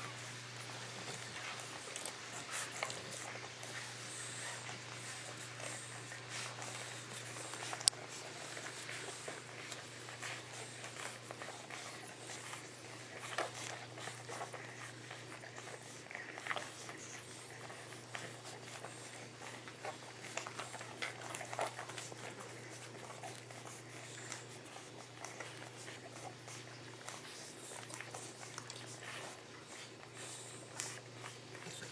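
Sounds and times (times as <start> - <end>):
puppies suckling and snuffling: 0.0 - 31.9.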